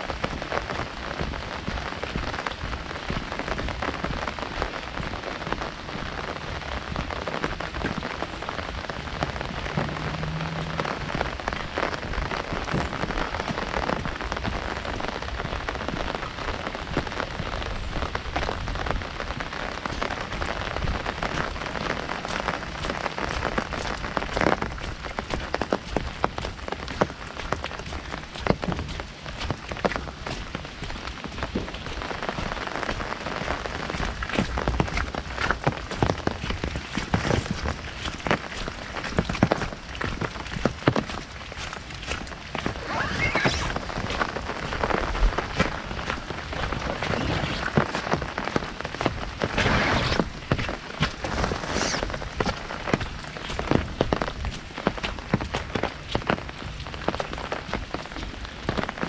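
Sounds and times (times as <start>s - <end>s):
heavy rain drumming on umbrella: 0.0s - 59.0s.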